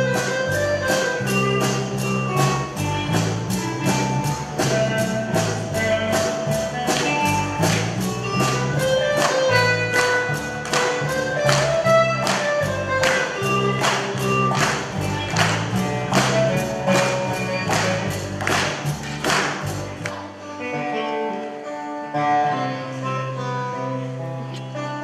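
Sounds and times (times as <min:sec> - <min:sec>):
steady percussion beat: 0:00.0 - 0:20.1
lead melody line: 0:00.0 - 0:24.0
acoustic guitar chords: 0:00.0 - 0:25.0.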